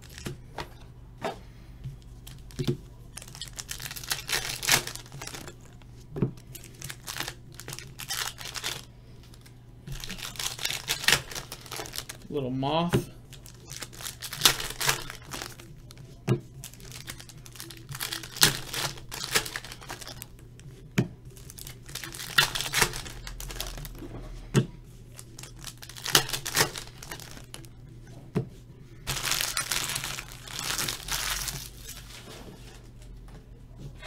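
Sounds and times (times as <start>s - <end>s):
wrapper crinkling: 0.0s - 0.8s, 2.0s - 20.6s, 21.3s - 24.0s, 25.1s - 27.8s, 29.0s - 32.9s.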